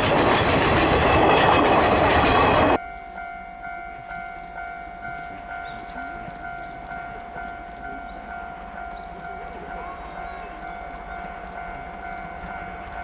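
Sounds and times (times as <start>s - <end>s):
level-crossing alarm ringing: 0.0s - 13.0s.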